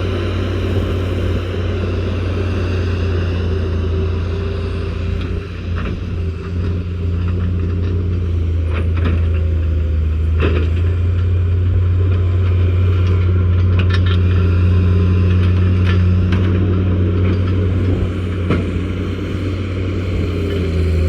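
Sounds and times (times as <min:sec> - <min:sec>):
machine engine running under load: 0:00.0 - 0:21.0.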